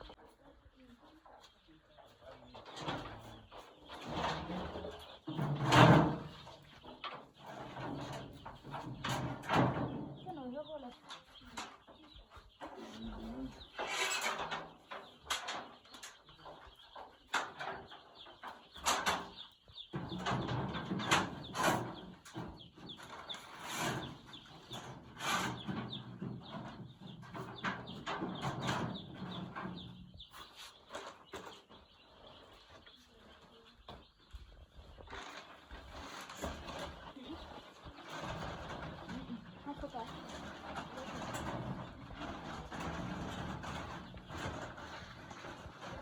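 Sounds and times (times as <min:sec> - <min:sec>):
chicks cheeping: 0:00.0 - 0:46.0.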